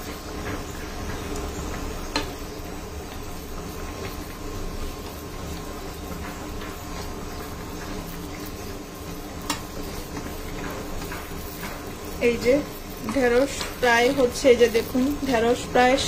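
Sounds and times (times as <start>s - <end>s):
curry simmering in a wok: 0.0s - 16.0s.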